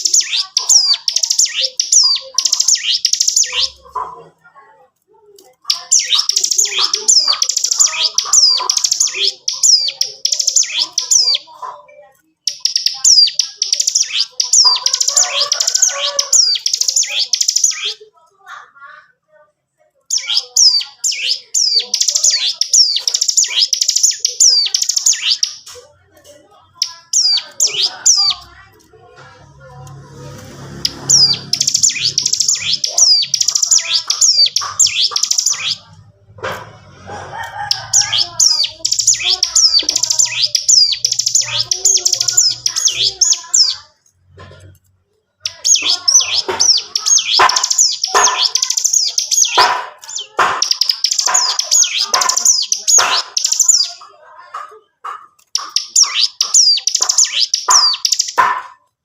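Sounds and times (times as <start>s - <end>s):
songbird singing rapid chirps: 0.0s - 59.0s.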